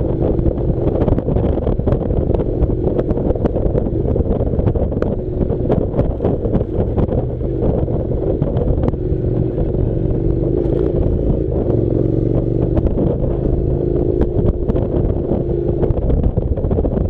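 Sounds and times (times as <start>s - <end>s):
gravel clicking under tyres: 0.0s - 17.0s
motorcycle engine running: 0.0s - 17.0s
wind buffeting microphone: 0.0s - 17.0s.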